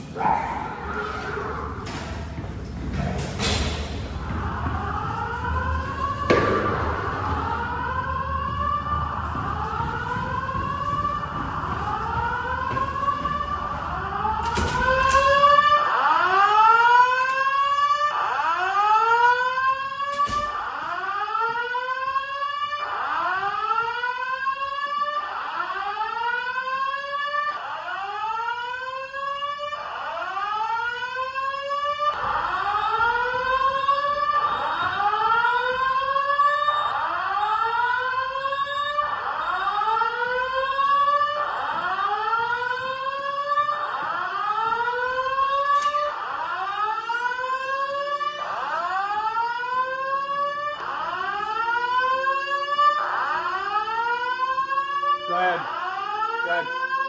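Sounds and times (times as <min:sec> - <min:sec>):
fire alarm whoop tone: 0:00.0 - 0:02.8, 0:03.4 - 0:57.0.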